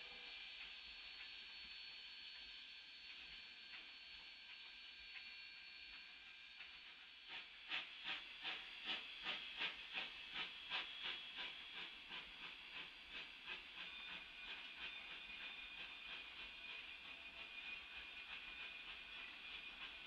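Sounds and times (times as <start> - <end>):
steam hiss: 0.0 - 20.0
steam locomotive chuffing: 0.0 - 20.0.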